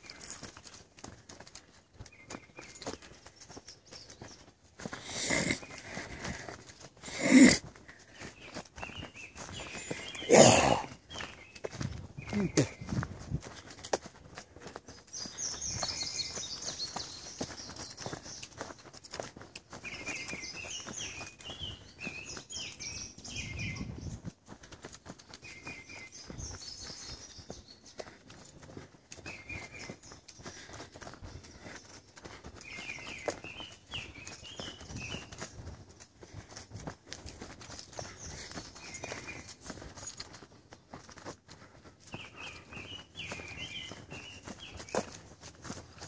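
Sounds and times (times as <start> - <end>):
footsteps on dirt trail: 0.0 - 46.0
songbird chirping: 0.0 - 46.0.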